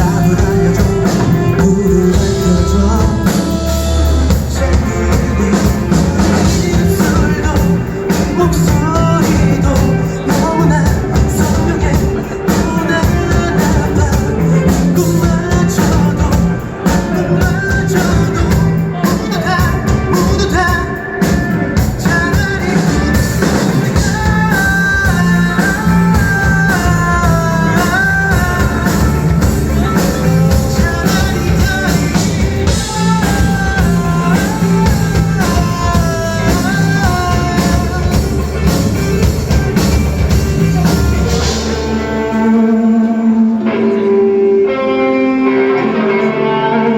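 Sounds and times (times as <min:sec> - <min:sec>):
drums: 0:00.0 - 0:46.3
bass guitar: 0:00.0 - 0:46.9
lead guitar line bending notes: 0:00.0 - 0:46.9.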